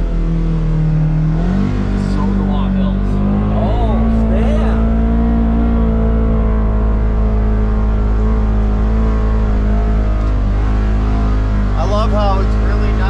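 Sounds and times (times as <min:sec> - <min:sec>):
engine droning at steady revs: 0:00.0 - 0:13.0.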